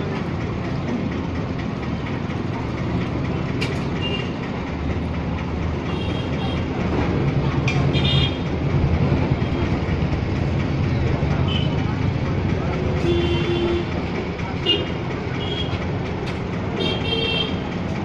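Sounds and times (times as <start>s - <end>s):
traffic engine rumble: 0.0s - 18.0s.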